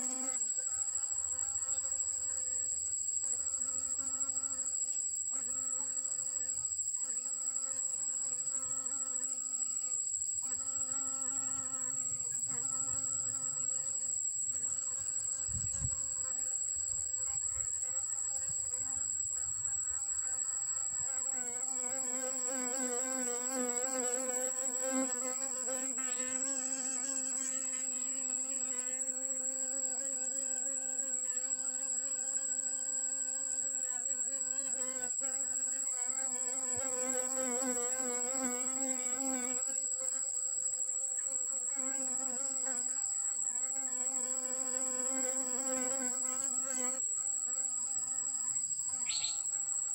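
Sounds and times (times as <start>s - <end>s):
bee buzzing in flight: 0.0s - 49.9s.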